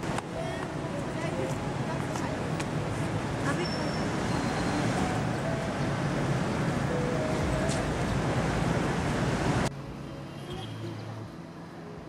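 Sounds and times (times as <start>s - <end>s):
city traffic: 0.0s - 12.0s.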